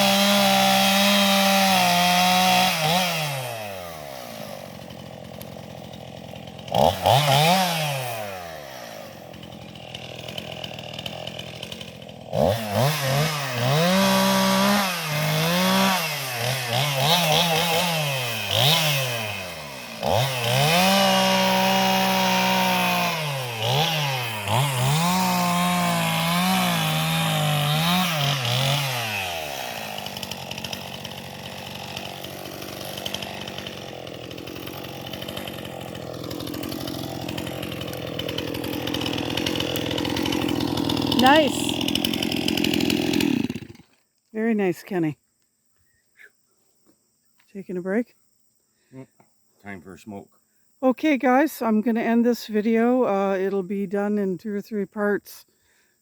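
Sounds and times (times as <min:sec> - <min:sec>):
chainsaw revving and idling: 0:00.0 - 0:45.1.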